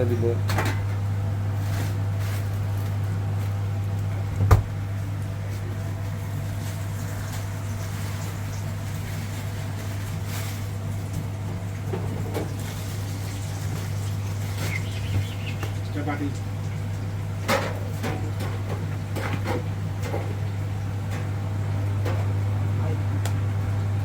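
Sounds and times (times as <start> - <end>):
kitchen equipment electrical hum: 0.0 - 24.0.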